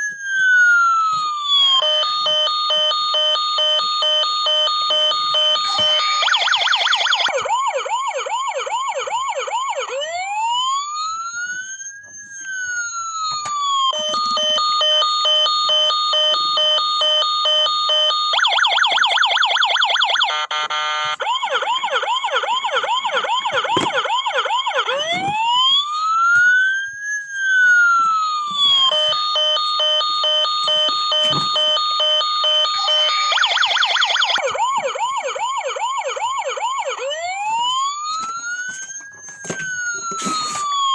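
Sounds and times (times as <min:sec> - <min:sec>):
toy electronic siren: 0:00.0 - 0:40.9.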